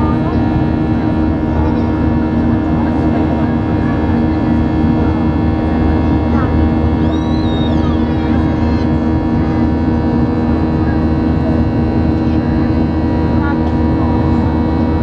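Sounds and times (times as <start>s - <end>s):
jet engine roar in cabin: 0.0s - 15.0s.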